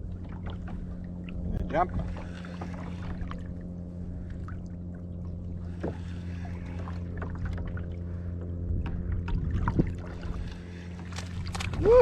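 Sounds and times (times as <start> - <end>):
water splashes: 0.0 - 8.3, 9.1 - 12.0
boat motor humming: 0.0 - 12.0.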